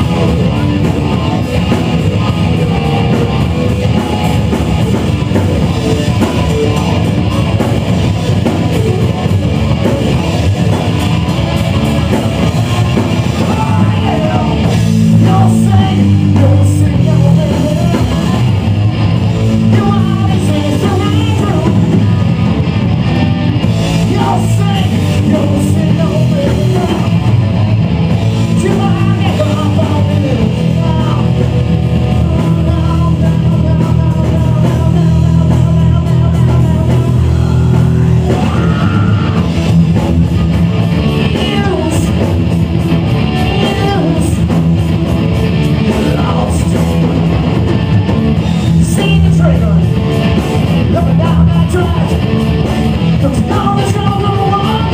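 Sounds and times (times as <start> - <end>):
person singing: 0.0 - 22.7, 23.8 - 27.3, 28.5 - 44.7, 45.4 - 47.6, 48.4 - 54.9
drum kit: 0.0 - 54.9
electric guitar: 0.0 - 54.9.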